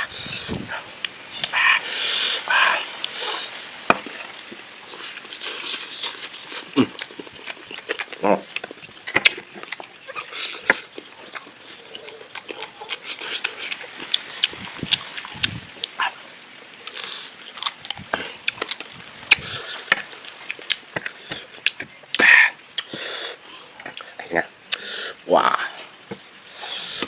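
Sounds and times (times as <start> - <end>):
wet chewing and lip-smacking: 0.2 - 16.2, 16.8 - 24.9.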